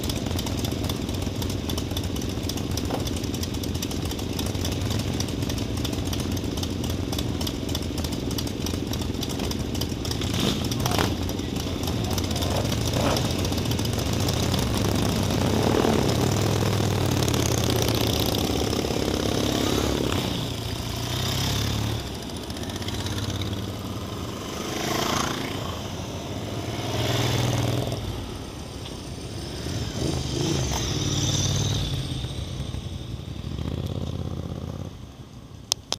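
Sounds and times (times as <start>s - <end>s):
motorcycles riding past: 0.0s - 35.5s.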